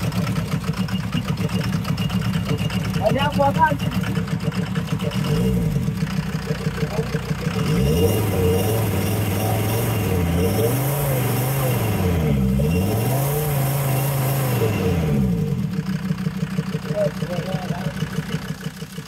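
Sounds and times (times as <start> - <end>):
diesel engine revving and idling: 0.0 - 19.0.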